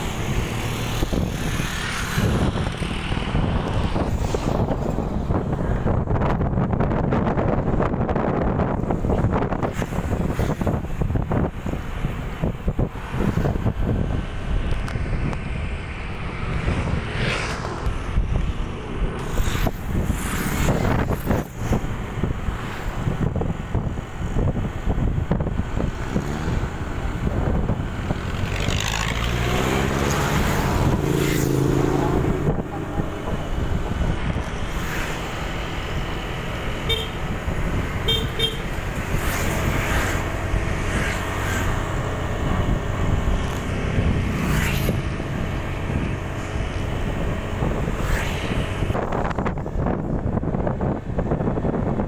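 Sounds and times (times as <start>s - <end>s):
motorcycle engine and wind: 0.0s - 52.0s
passing vehicle engine: 0.0s - 52.0s.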